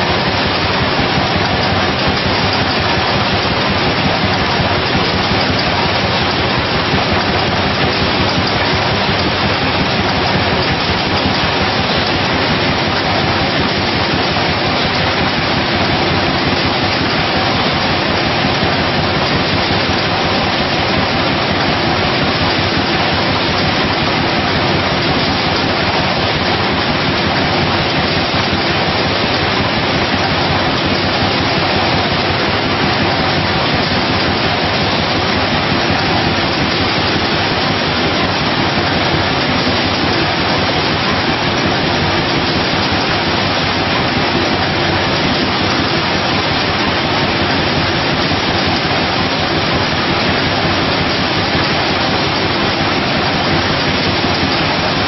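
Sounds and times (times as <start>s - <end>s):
bottling machine running: 0.0s - 55.0s.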